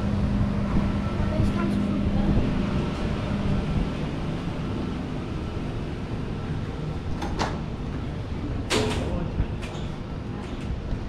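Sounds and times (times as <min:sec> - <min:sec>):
train equipment hum and hiss: 0:00.0 - 0:11.0.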